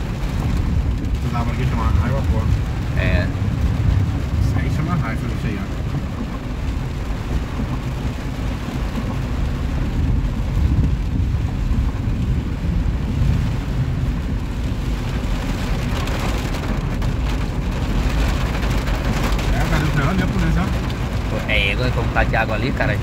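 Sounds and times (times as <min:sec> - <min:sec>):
car low rumble: 0:00.0 - 0:23.0
heavy rain on car roof: 0:00.0 - 0:23.0.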